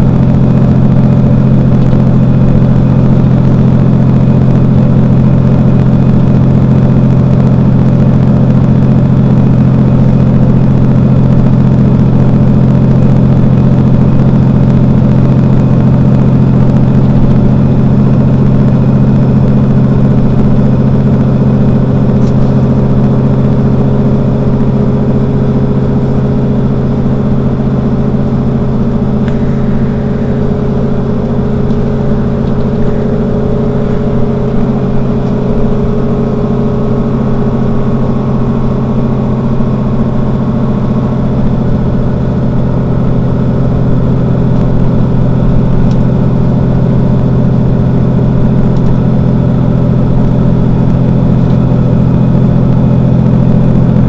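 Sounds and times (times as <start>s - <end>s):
bus engine idling: 0.0s - 54.0s
faint steady whine: 0.0s - 54.0s.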